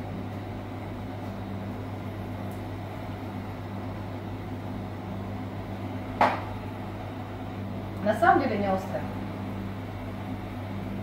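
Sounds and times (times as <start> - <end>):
electrical hum of kitchen appliances: 0.0 - 11.0.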